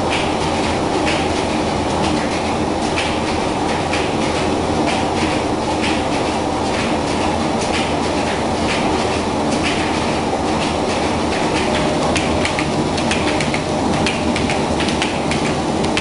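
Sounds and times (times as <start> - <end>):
mill machinery clattering: 0.0 - 16.0.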